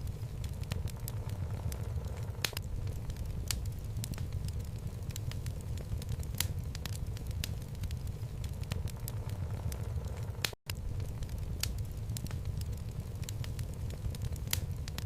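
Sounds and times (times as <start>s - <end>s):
burning logs crackling and popping: 0.0s - 15.0s
fire rushing: 0.0s - 15.0s.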